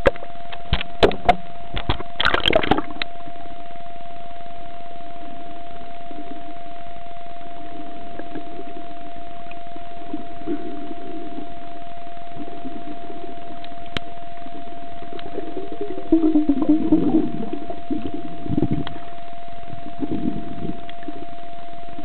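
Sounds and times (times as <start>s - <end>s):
soft underwater rumble: 0.0s - 22.0s
steady tone: 1.5s - 22.0s.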